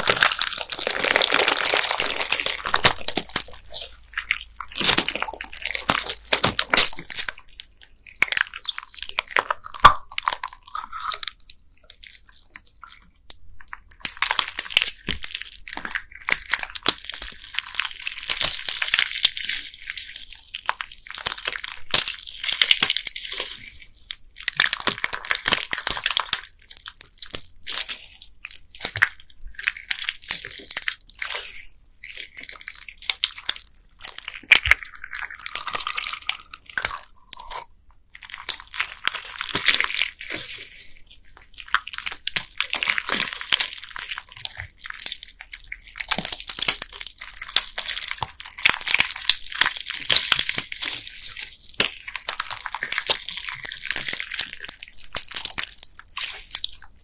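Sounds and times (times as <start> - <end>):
beads crackling in squeezed slime: 0.0 - 12.8, 13.7 - 57.0.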